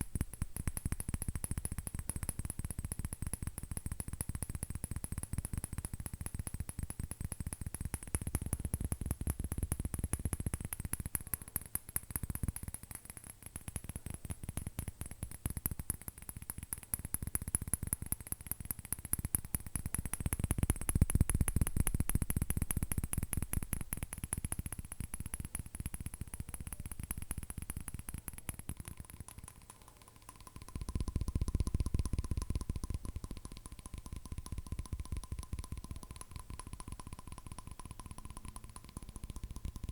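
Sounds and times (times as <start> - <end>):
thin steady ringing tone: 0.0 - 39.9.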